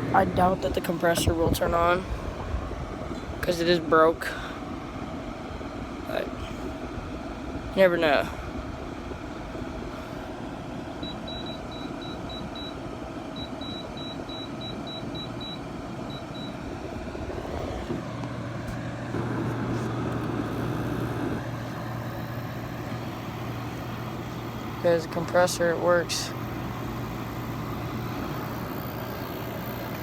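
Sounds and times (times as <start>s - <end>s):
air conditioner fan running: 0.0s - 30.0s
compressor low hum: 0.0s - 30.0s.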